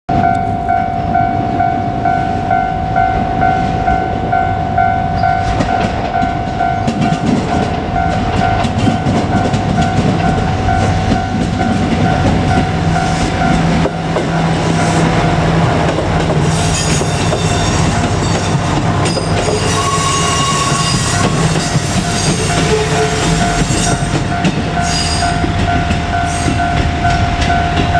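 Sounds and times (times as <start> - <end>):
level-crossing warning bell ringing: 0.1 - 27.9
train wheels clattering over rails: 5.4 - 27.9.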